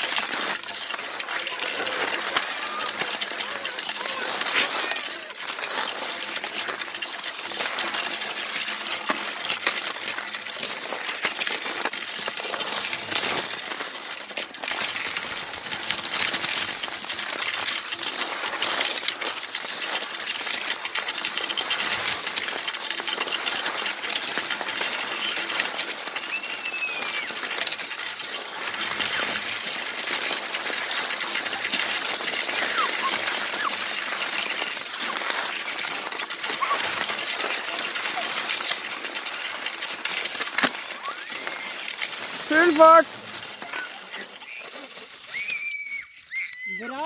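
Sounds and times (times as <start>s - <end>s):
ski poles crunching into snow: 0.0s - 47.0s
skis scraping over snow: 0.0s - 47.0s.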